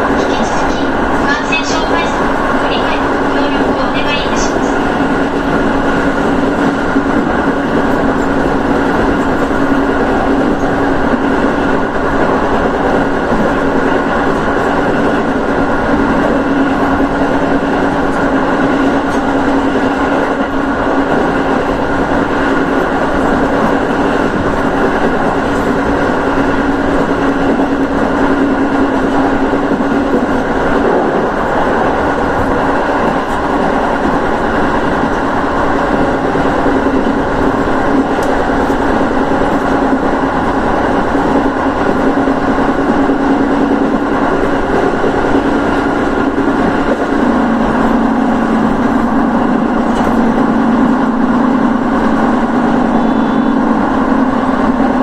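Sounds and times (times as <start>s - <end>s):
electric train running: 0.0s - 55.0s.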